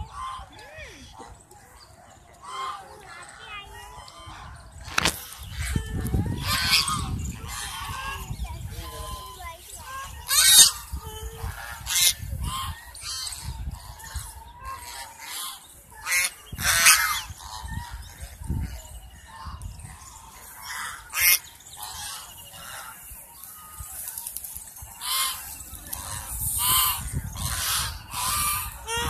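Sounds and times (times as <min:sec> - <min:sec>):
geese honking: 0:00.0 - 0:01.4, 0:02.4 - 0:05.7, 0:06.3 - 0:18.2, 0:19.2 - 0:24.1, 0:24.8 - 0:29.0.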